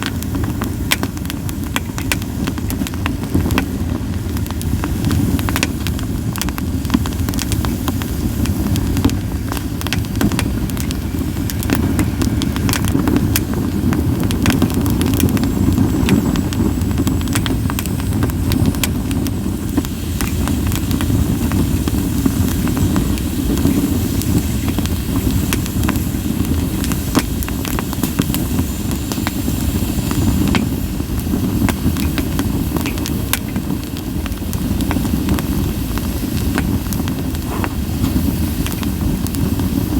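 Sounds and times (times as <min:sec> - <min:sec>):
campfire flame rumble: 0:00.0 - 0:39.9
fire crackling and popping: 0:00.0 - 0:39.9
high hiss from burning wood: 0:00.0 - 0:39.9.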